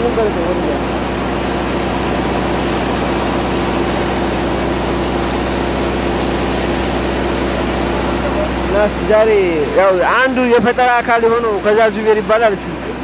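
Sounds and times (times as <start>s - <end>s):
grain mill grinding: 0.0s - 13.0s
tractor engine idling: 0.0s - 13.0s.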